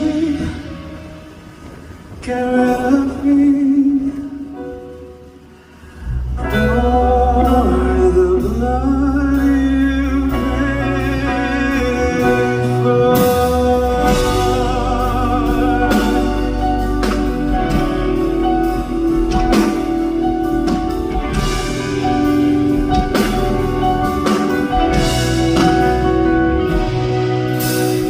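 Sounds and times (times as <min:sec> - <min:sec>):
band playing pop ballad: 0:00.0 - 0:28.0.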